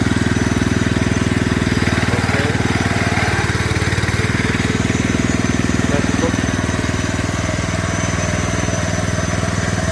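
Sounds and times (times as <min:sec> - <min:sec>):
small petrol engine running: 0:00.0 - 0:09.9.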